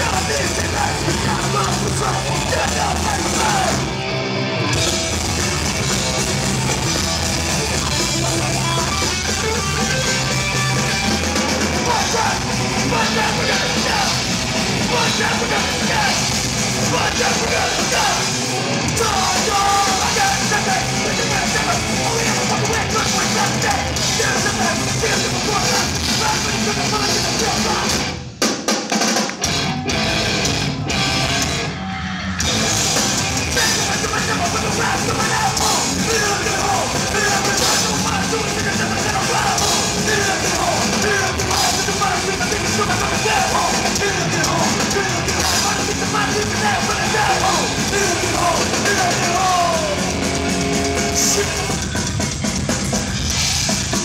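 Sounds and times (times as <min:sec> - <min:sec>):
live metal band playing: 0:00.0 - 0:54.0.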